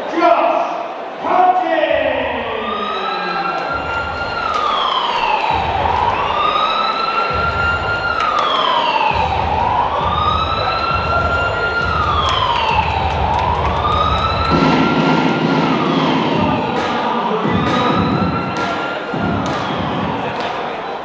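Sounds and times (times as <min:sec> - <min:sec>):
wailing siren over loudspeakers: 0:02.2 - 0:20.6.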